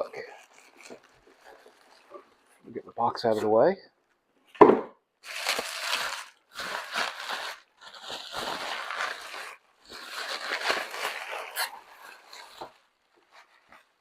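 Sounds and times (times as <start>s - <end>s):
plastic packaging crinkling: 0.0s - 2.7s, 5.2s - 14.0s.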